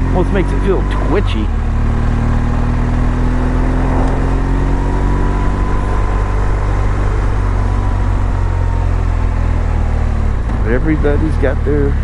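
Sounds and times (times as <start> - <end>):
motorcycle engine at low revs: 0.0 - 12.0
road and wind noise: 0.0 - 12.0.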